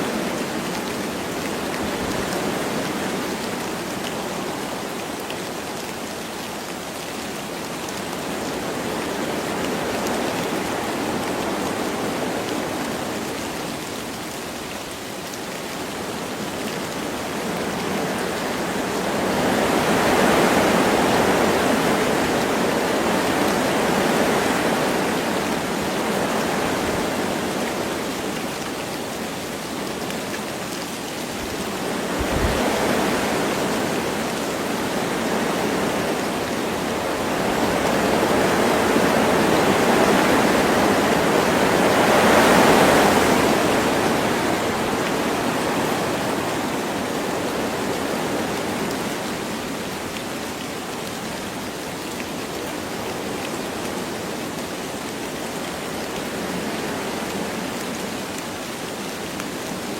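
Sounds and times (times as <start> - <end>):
light rain: 0.0 - 59.9
wind through trees: 0.0 - 59.9.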